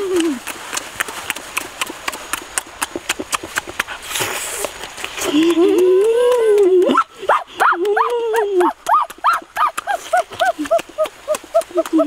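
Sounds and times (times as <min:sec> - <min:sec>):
wet smacking and chewing: 0:00.0 - 0:12.0.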